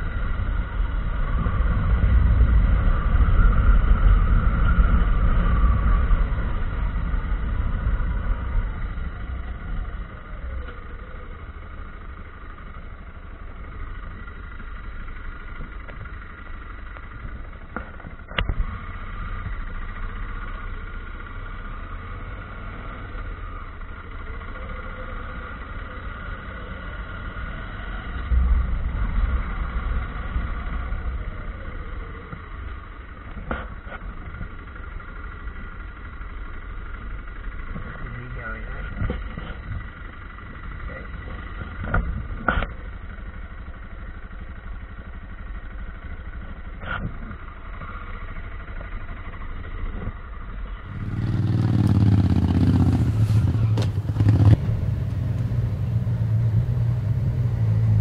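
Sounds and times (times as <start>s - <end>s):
motorcycle engine rumble: 0.0s - 58.0s.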